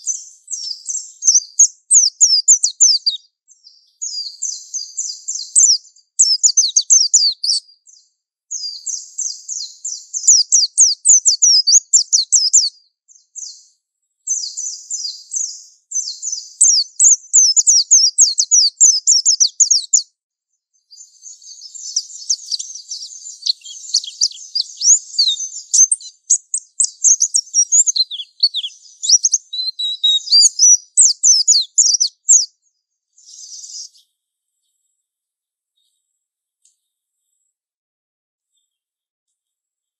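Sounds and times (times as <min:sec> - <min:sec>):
bird twittering song: 0:00.0 - 0:20.1, 0:20.8 - 0:35.1.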